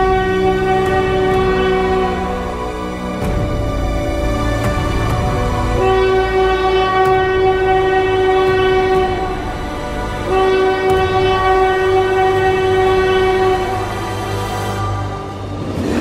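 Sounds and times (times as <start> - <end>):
train horn blasts: 0.0 - 3.2, 4.8 - 16.0
train rumbling: 0.0 - 16.0.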